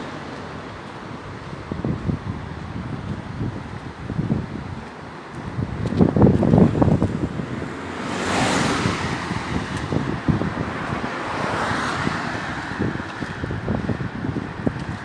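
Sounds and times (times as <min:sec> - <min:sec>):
rushing wind gusts: 0:00.0 - 0:15.0
wind buffeting microphone: 0:00.0 - 0:15.0.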